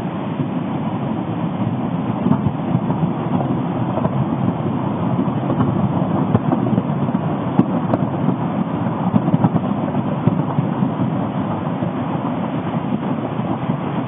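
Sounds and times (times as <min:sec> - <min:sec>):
low rumble of volcanic eruption: 0:00.0 - 0:14.0.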